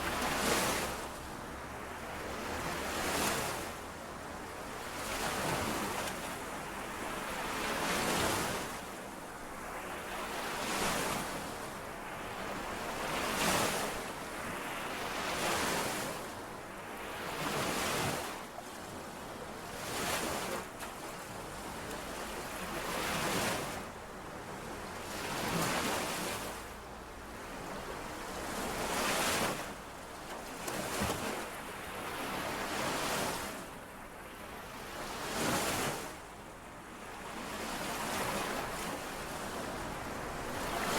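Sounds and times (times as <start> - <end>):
lake waves washing on shore: 0.0 - 36.3, 37.0 - 40.9.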